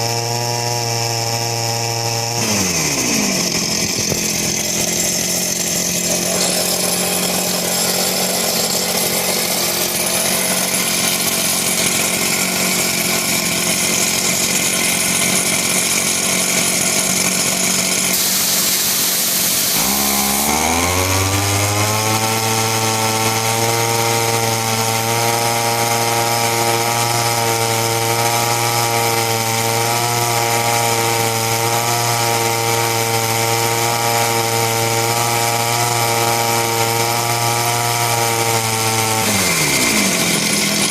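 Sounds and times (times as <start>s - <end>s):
air compressor engine running: 0.8s - 40.9s.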